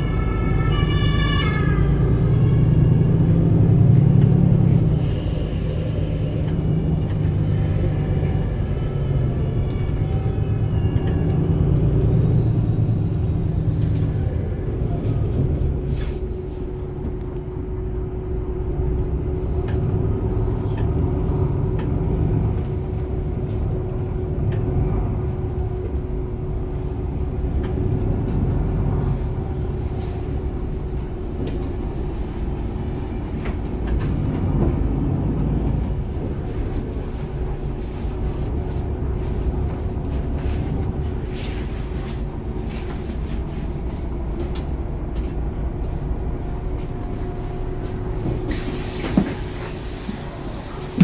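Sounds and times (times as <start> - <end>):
bus diesel engine rumble: 0.0 - 51.0.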